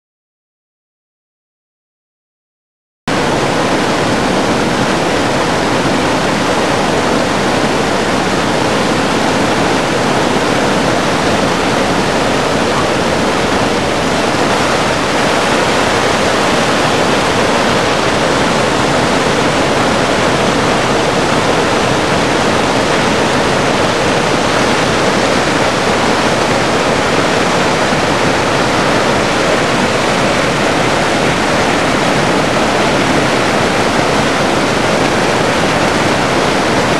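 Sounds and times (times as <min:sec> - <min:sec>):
falling water rushing: 0:03.1 - 0:36.9.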